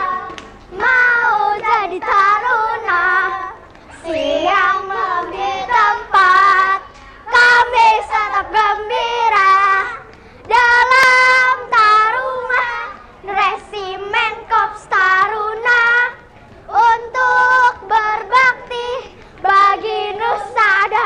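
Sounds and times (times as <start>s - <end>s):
children singing: 0.0s - 21.0s.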